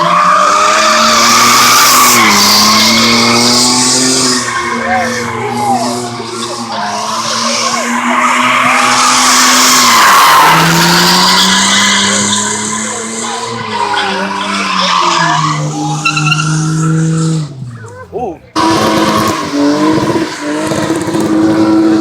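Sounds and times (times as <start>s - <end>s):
car engine at high revs: 0.0s - 22.0s
tyres squealing on pavement: 0.0s - 22.0s.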